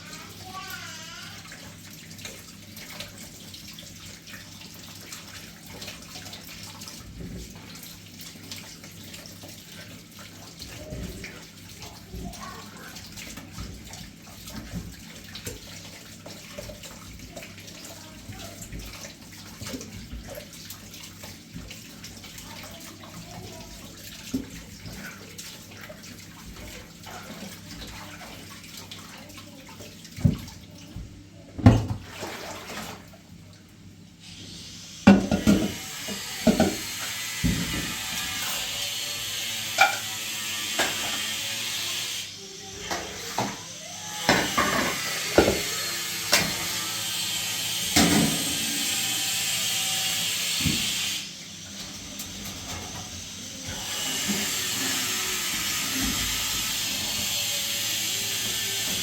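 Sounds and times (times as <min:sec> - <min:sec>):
water running: 0:00.0 - 0:59.0.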